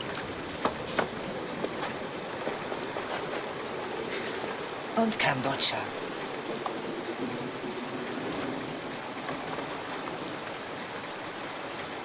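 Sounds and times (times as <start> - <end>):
raindrops ticking: 0.0 - 12.0
steady rain hiss: 0.0 - 12.0.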